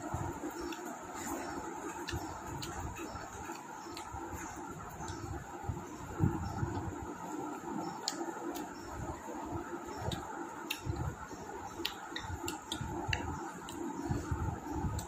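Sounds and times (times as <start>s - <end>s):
steady low hum: 0.0s - 15.0s
chewing and mouth noises: 0.1s - 15.0s.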